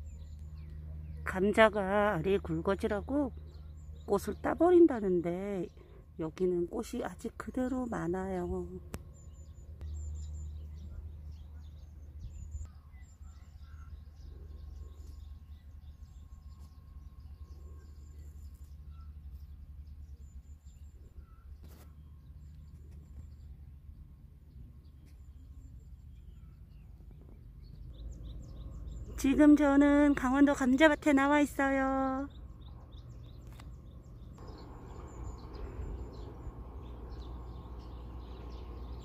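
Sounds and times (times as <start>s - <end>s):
low outdoor rumble: 0.0s - 39.0s
small birds chirping: 0.0s - 39.0s.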